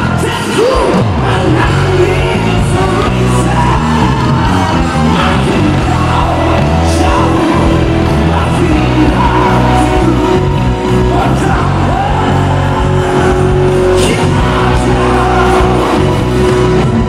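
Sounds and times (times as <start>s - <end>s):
man singing into a microphone: 0.0s - 16.5s
bass guitar: 0.0s - 17.0s
drums: 0.0s - 17.0s
electric guitar: 0.0s - 17.0s.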